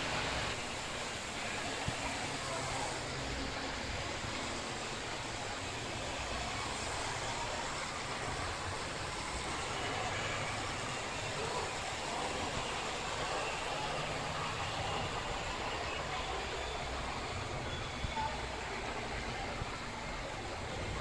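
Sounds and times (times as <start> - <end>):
model trains rumbling: 0.0 - 21.0
room noise hiss: 0.0 - 21.0.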